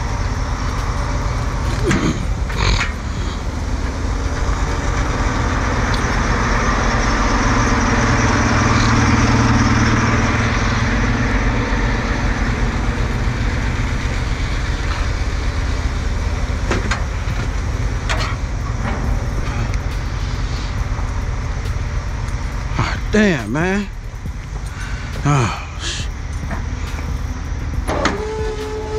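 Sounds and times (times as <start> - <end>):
diesel truck engine idling: 0.0 - 28.9.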